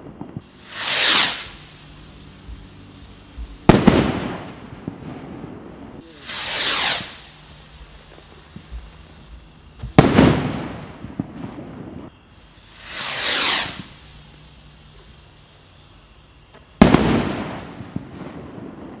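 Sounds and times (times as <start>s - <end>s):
firework bang: 0.0s - 19.0s
firework crackle: 0.0s - 19.0s
firework rocket whoosh: 0.0s - 19.0s.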